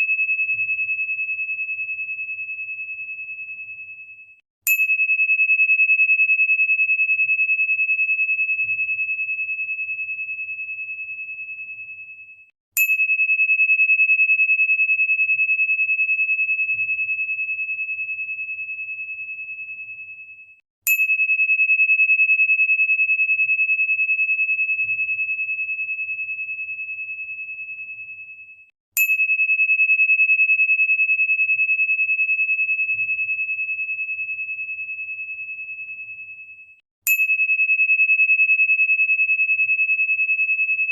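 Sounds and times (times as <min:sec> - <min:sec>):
high bell-like crystal tone: 0:00.0 - 0:40.9.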